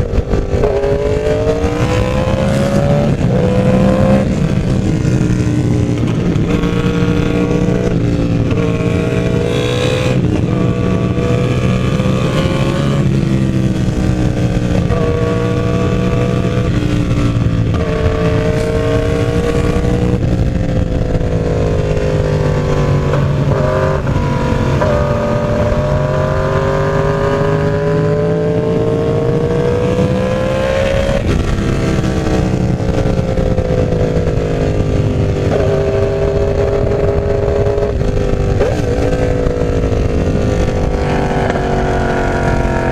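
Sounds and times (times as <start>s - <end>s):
constant rush of noise: 0.0s - 42.9s
motorcycle engine revving: 0.0s - 42.9s.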